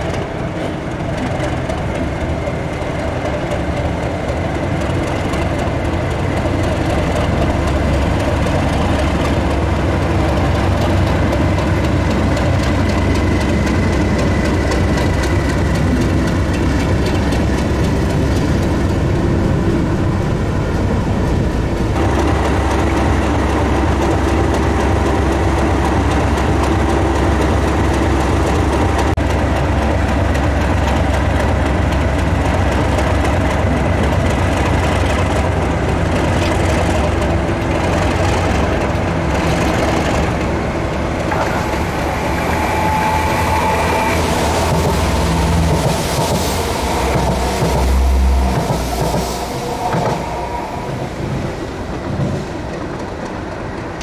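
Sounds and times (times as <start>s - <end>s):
train engine running: 0.0s - 54.0s.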